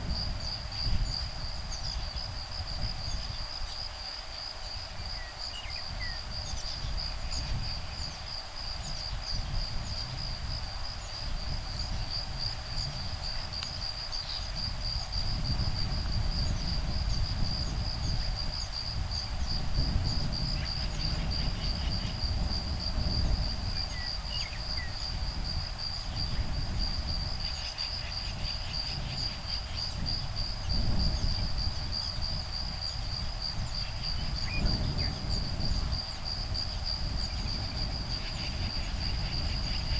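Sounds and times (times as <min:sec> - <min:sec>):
insects trilling: 0:00.0 - 0:39.9
low rumble of breeze: 0:00.0 - 0:39.9.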